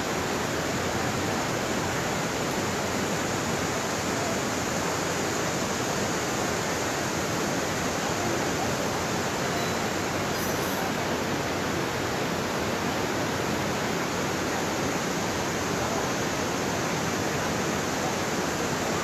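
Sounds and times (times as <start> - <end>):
river rushing over rapids: 0.0 - 19.0.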